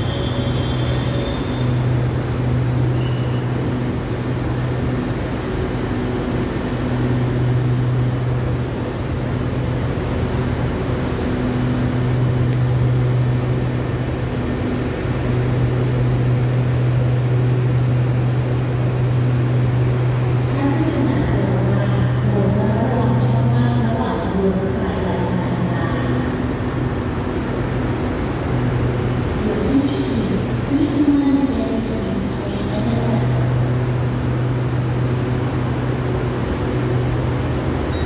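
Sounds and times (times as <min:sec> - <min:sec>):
constant noise wash: 0:00.0 - 0:38.0
electric train humming: 0:00.0 - 0:38.0.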